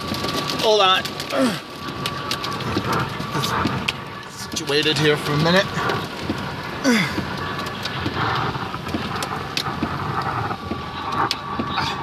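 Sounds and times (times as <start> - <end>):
heavy rain on a vehicle: 0.0 - 12.0.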